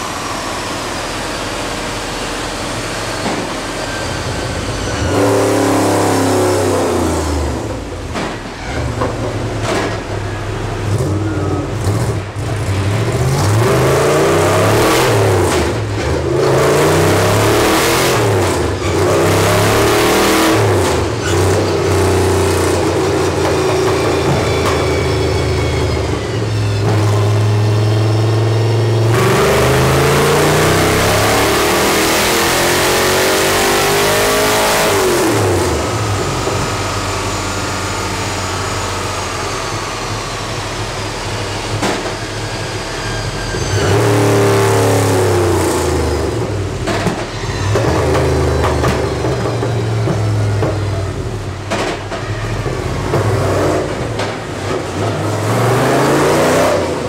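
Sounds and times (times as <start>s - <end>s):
race car engine revving: 2.8s - 57.0s.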